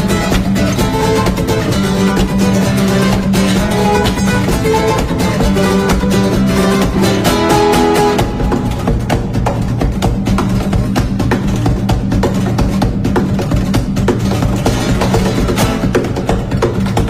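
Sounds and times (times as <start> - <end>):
strummed acoustic guitar song: 0.0 - 17.0.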